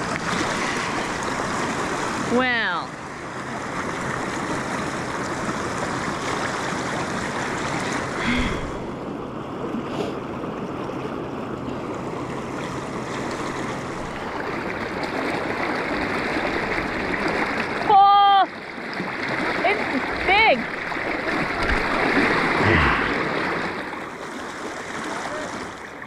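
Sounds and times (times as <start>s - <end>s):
fast-flowing river water: 0.0s - 26.0s.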